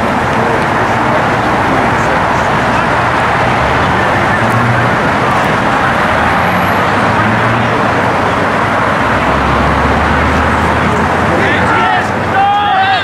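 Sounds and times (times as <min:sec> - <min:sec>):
loud steady rushing noise: 0:00.0 - 0:13.0.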